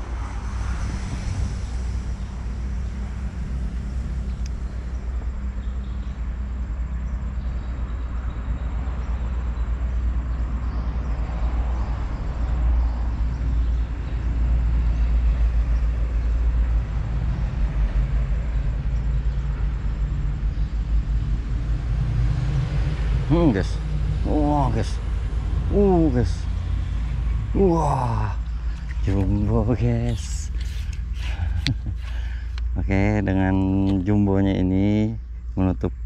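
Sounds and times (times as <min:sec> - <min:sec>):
vehicle passing: 0:00.0 - 0:35.0
highway traffic rumble: 0:00.0 - 0:36.0.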